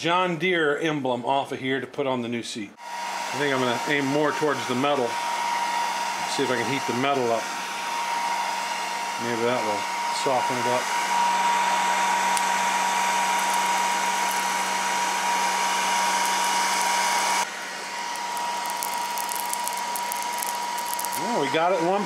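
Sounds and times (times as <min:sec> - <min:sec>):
heat gun whining and blowing: 0:02.8 - 0:22.0.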